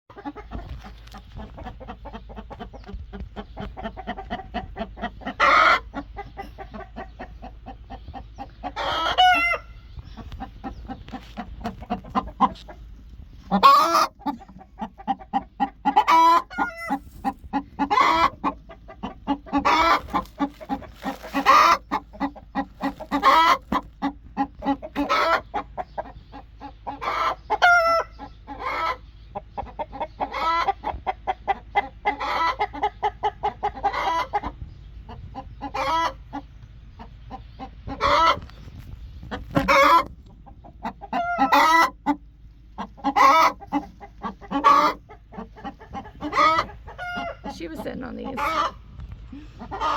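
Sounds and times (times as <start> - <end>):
hen clucking: 0.1 - 49.9.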